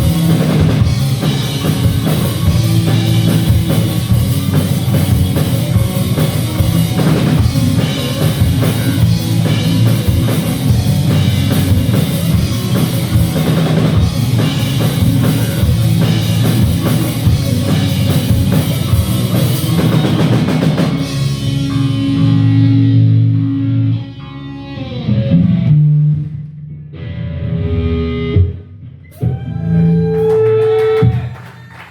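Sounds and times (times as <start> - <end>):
rock band playing live: 0.0 - 31.3.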